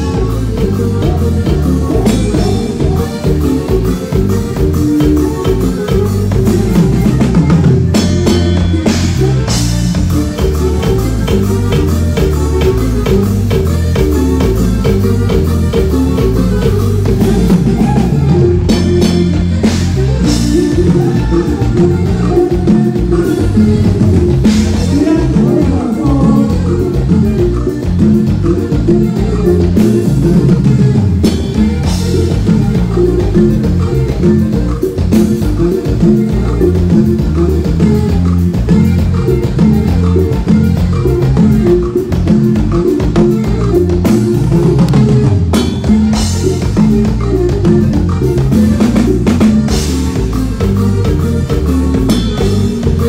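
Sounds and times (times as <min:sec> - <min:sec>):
live band playing dance music: 0:00.0 - 0:53.0.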